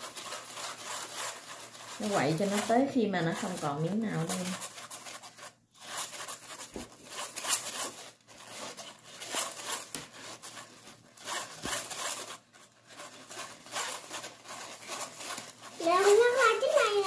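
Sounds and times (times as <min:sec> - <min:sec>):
whisk scraping metal mesh sieve: 0:00.0 - 0:17.0.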